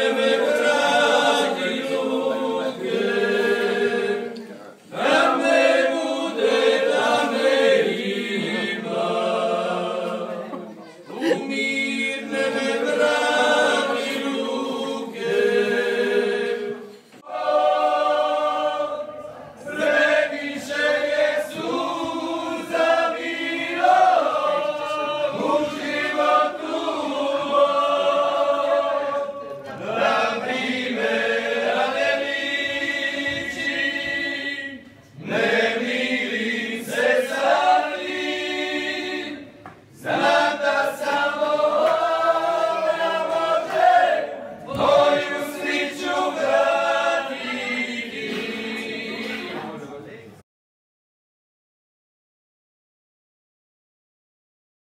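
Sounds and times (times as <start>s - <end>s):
group singing unaccompanied: 0.0s - 49.8s.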